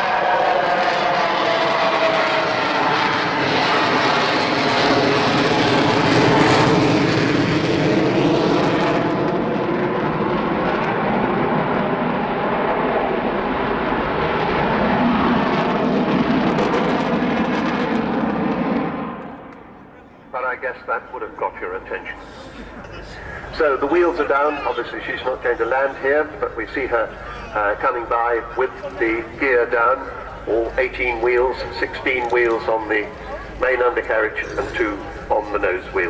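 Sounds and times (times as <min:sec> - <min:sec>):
jet engines roaring past: 0:00.0 - 0:36.0.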